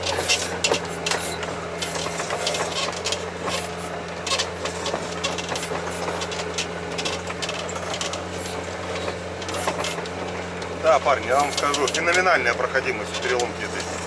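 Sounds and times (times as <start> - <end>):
creaks crackles and knocks: 0.0 - 14.0
vehicle engine droning: 0.0 - 14.0.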